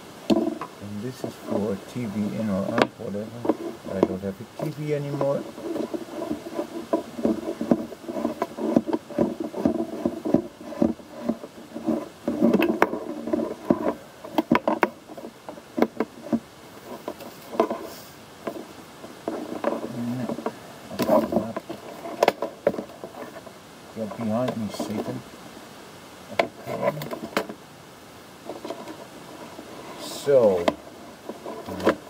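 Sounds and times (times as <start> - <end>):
cables and clutter rustling: 0.3 - 25.2, 26.3 - 27.6, 28.4 - 32.0.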